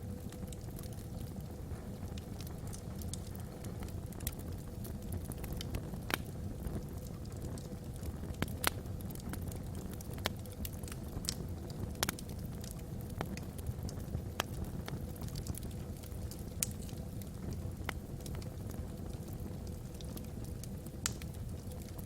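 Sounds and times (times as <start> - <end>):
flames rumbling: 0.0 - 22.0
logs crackling and popping: 0.0 - 22.0.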